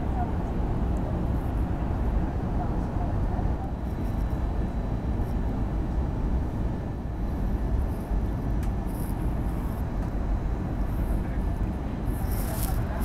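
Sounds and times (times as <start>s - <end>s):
jet engine and airflow noise: 0.0s - 13.0s.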